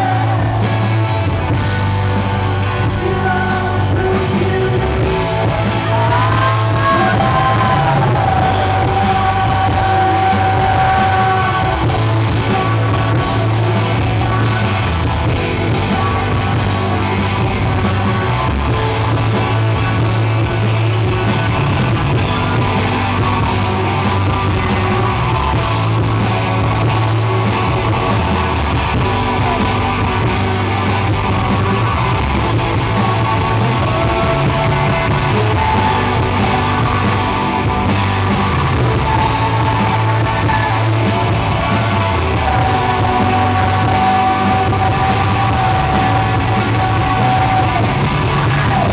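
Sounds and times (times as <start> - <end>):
held guitar lead notes: 0.0 - 48.9
live rock band playing: 0.0 - 48.9.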